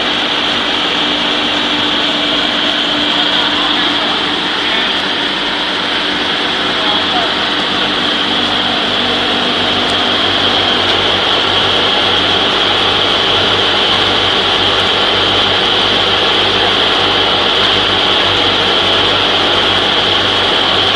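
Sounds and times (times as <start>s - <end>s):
electric grinding mill whirring: 0.0s - 20.9s.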